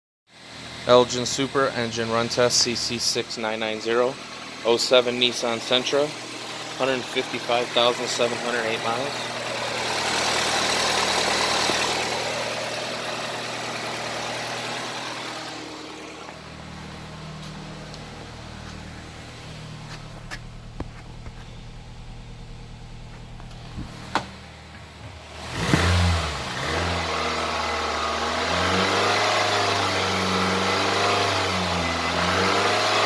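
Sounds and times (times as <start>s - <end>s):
car engine idling: 0.4s - 32.4s.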